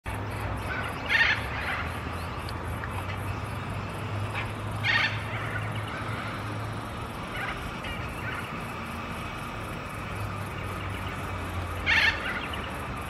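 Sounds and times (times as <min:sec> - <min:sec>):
harsh bird calls: 0:00.1 - 0:13.0
steady low hum: 0:00.1 - 0:13.0.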